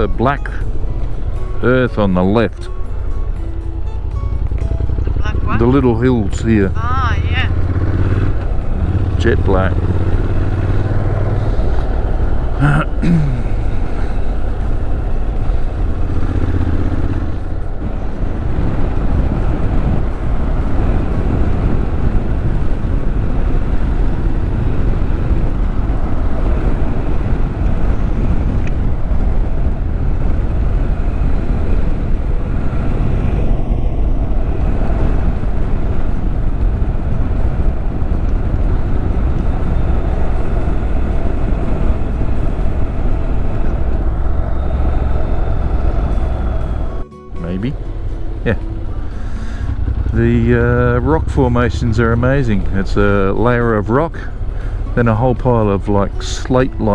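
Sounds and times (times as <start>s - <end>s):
motorcycle engine running: 0.0s - 56.9s
wind noise on microphone: 0.0s - 56.9s.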